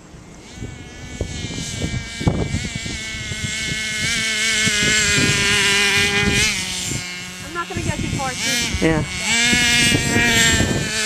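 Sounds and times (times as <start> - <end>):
toy car motor whining: 0.4 - 11.0
wind thumps on microphone: 0.5 - 11.0.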